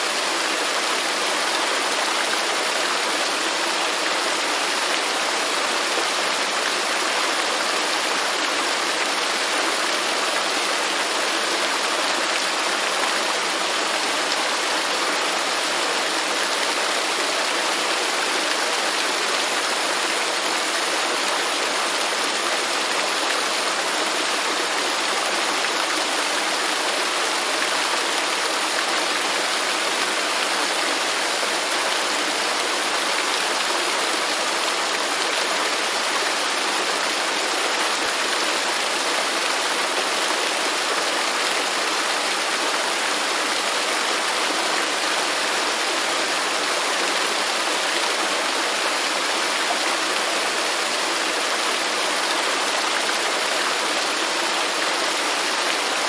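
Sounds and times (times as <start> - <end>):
waterfall pouring into pool: 0.0 - 56.0.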